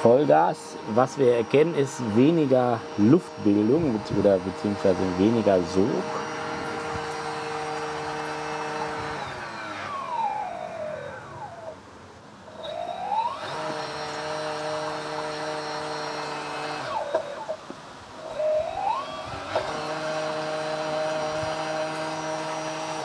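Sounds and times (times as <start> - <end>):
electric motor propeller whining underwater: 0.0 - 23.0.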